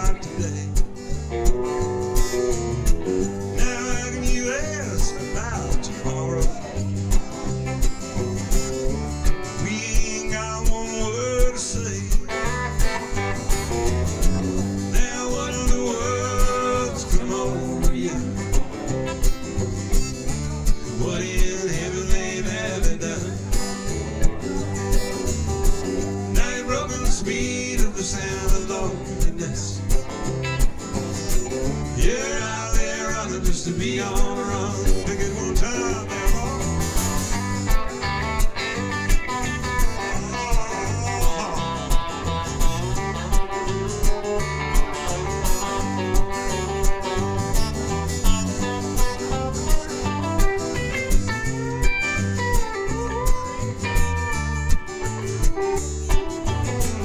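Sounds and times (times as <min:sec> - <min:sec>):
bass line: 0:00.0 - 0:57.0
lead guitar melody: 0:00.0 - 0:57.0
strummed acoustic guitar: 0:00.0 - 0:57.0.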